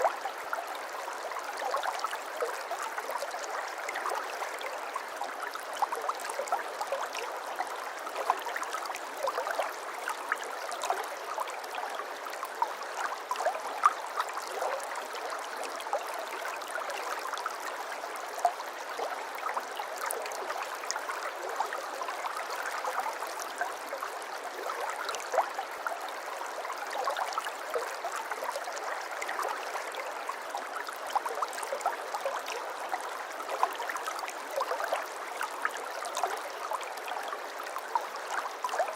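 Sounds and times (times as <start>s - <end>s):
shallow water babbling: 0.0s - 38.9s.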